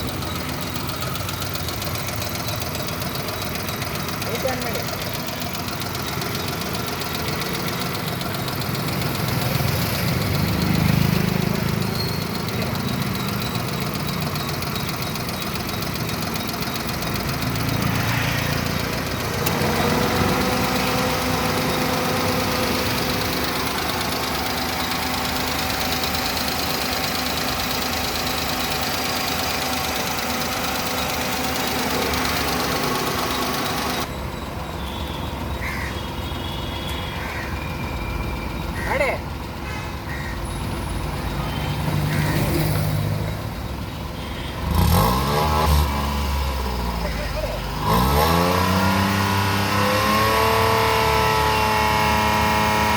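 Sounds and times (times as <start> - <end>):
car engine humming: 0.0 - 52.9.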